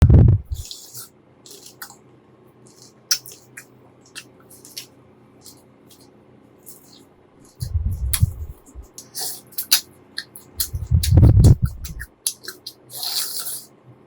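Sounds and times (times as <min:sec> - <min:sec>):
wet chewing sounds: 0:00.5 - 0:02.0, 0:02.6 - 0:13.7.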